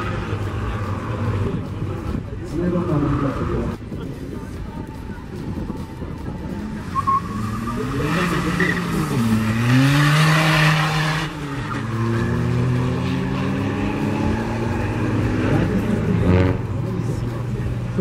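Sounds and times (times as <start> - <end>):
diesel car engine accelerating: 0.0 - 3.8, 6.5 - 18.0.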